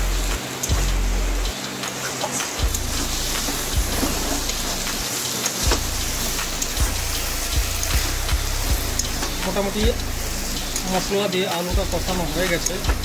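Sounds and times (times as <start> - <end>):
food frying in oil: 0.0 - 13.0.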